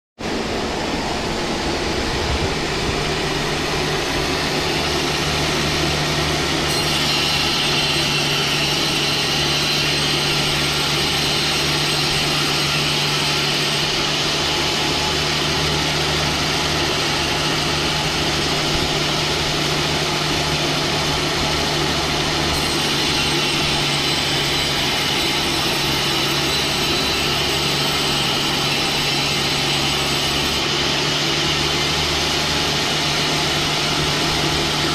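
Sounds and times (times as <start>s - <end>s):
sawmill saw cutting log: 0.2s - 34.9s.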